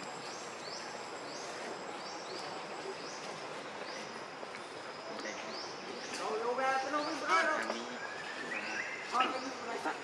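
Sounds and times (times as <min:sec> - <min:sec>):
insect hiss: 0:00.0 - 0:10.0.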